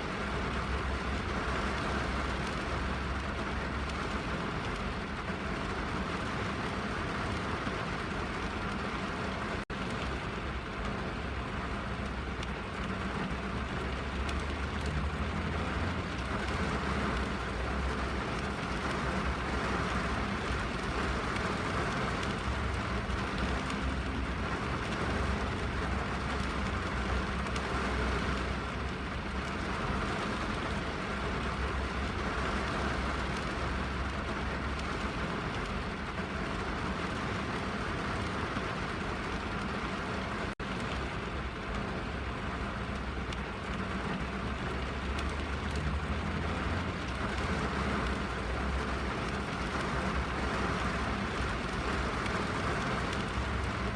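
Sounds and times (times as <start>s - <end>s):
rain on car roof and glass: 0.0s - 53.9s.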